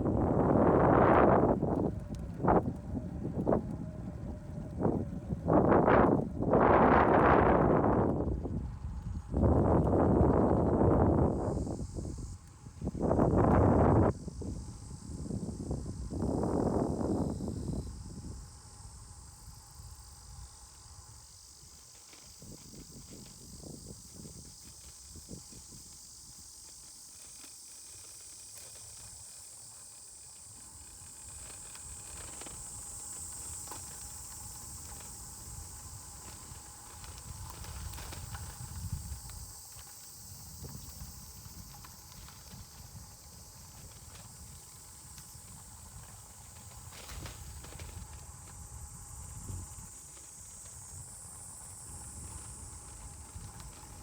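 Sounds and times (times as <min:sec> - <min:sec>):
high-pitched insect drone: 0:00.0 - 0:54.0
wind rumble on microphone: 0:00.0 - 0:54.0.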